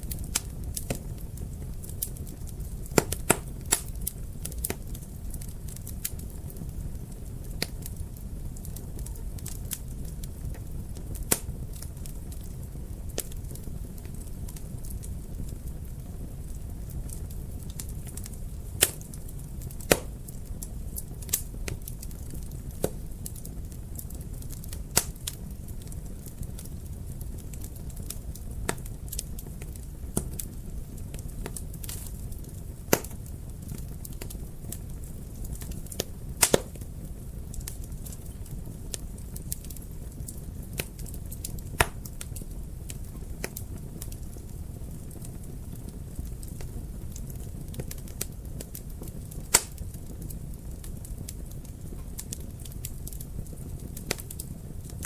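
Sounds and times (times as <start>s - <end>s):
fire pops and snaps: 0.0s - 55.0s
flames rumbling: 0.0s - 55.0s.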